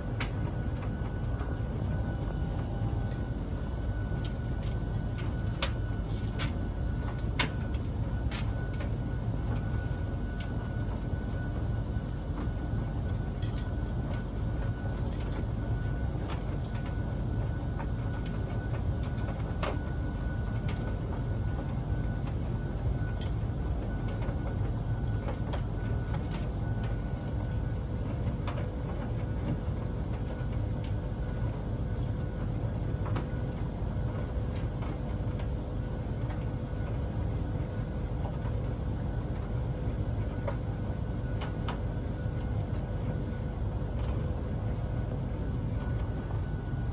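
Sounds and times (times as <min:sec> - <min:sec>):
faint steady hum: 0:00.0 - 0:46.9
tumble dryer low rumble: 0:00.0 - 0:46.9.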